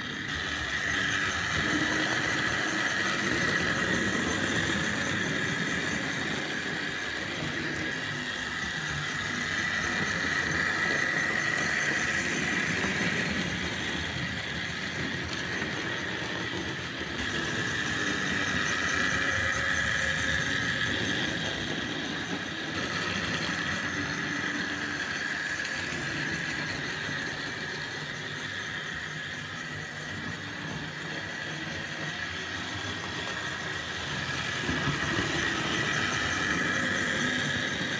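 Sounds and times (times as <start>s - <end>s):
model train motor whine: 0.0s - 37.9s.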